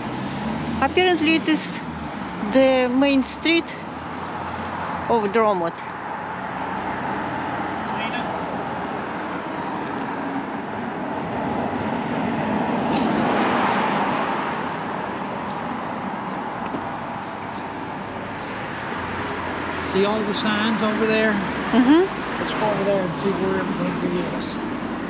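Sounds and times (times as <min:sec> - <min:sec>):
car passing: 0:00.0 - 0:25.0
street traffic noise: 0:00.0 - 0:25.0.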